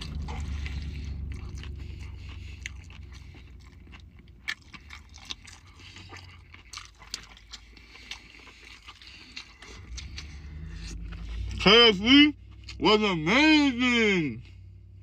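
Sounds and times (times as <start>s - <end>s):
low rumble: 0.0s - 7.9s, 9.5s - 13.8s
person chewing food: 0.0s - 11.6s, 12.4s - 12.8s.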